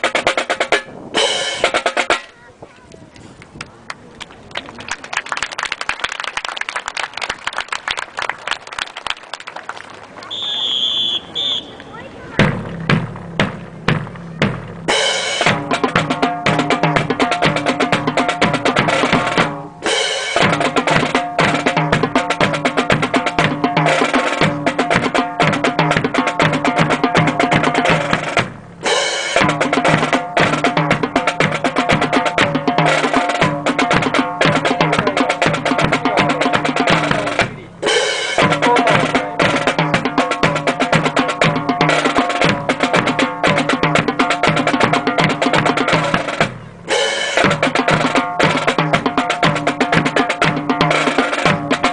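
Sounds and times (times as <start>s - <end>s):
drum march music: 0.0s - 2.8s, 10.2s - 51.9s.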